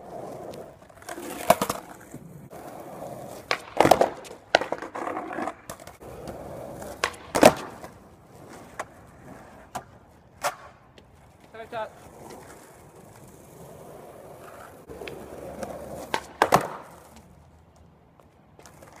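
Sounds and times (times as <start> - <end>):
skateboard clacking on ground: 0.0 - 19.0
skateboard wheels rolling on concrete: 0.0 - 19.0.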